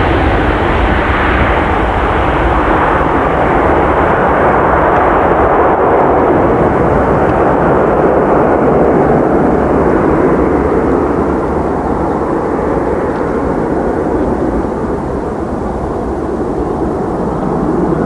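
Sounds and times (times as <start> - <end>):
jet airliner booming rumble: 0.0 - 18.0.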